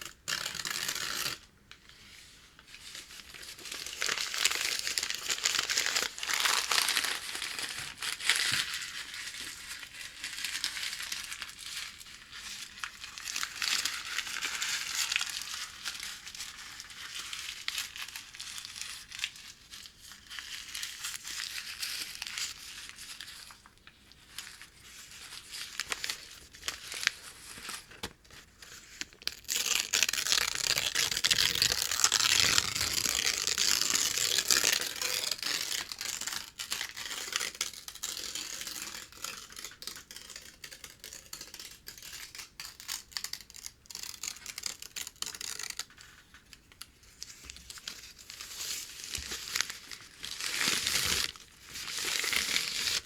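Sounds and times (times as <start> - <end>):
paper crinkling and crackling: 0.0 - 53.0.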